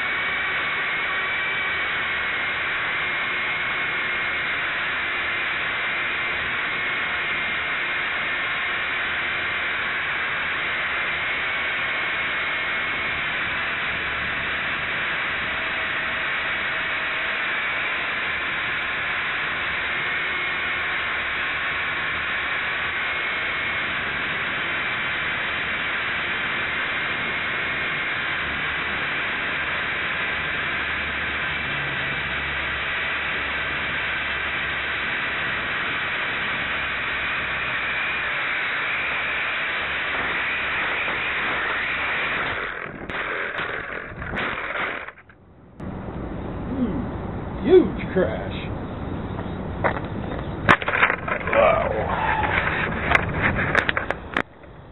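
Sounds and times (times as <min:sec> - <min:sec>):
toy helicopter rotors hissing: 0:00.0 - 0:45.3, 0:50.7 - 0:54.2
faint wavering motor whine: 0:00.0 - 0:54.9.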